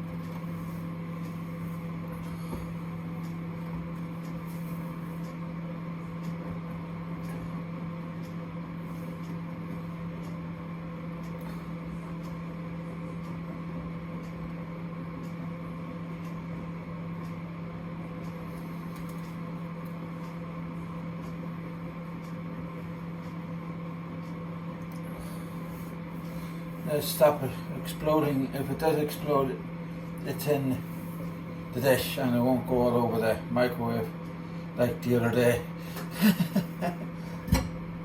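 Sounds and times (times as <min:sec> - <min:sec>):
microwave oven humming: 0:00.0 - 0:38.0.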